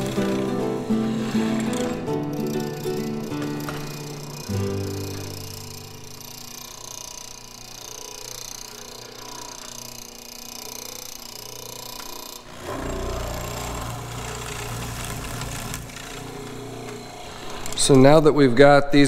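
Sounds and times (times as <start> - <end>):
mortiser boring into wood: 0.0 - 18.3.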